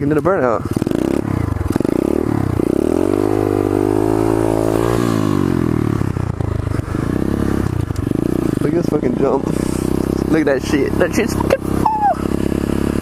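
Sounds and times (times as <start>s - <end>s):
small motorbike engine revving: 0.6s - 13.0s.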